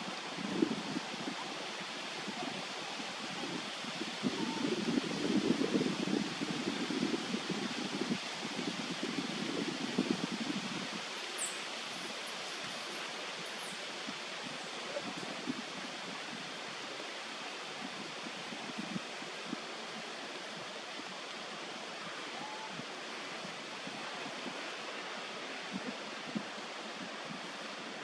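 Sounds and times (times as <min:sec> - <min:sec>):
wind through tree leaves: 0:00.0 - 0:28.0.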